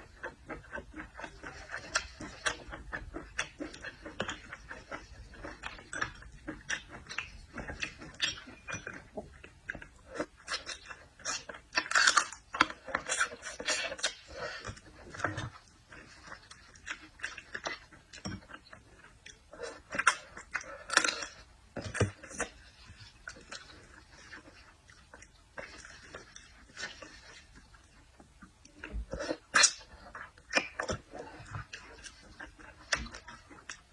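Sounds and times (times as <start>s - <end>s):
person chewing food: 0.0s - 33.9s.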